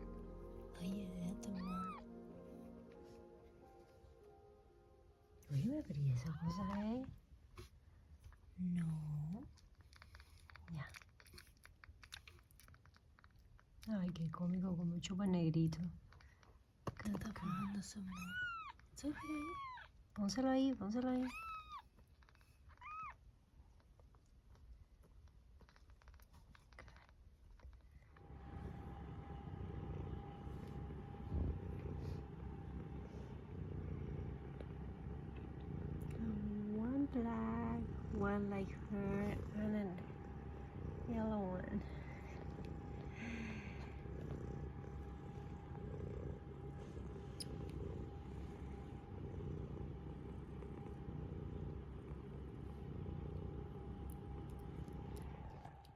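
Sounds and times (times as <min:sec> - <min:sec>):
cat purring: 0:00.0 - 0:55.9
faint steady hum: 0:00.0 - 0:55.9.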